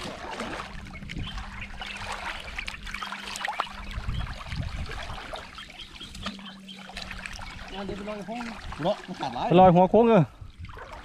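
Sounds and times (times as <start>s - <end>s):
river water splashing: 0.0s - 11.0s.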